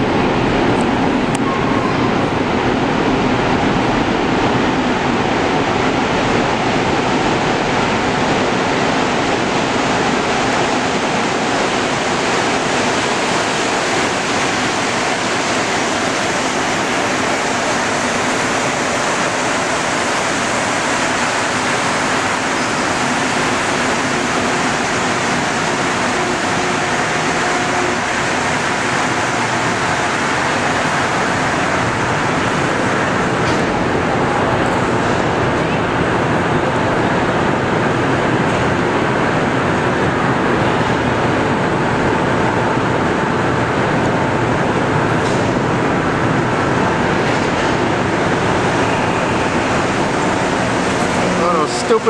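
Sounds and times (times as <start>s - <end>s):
train running into station: 0.0s - 52.0s.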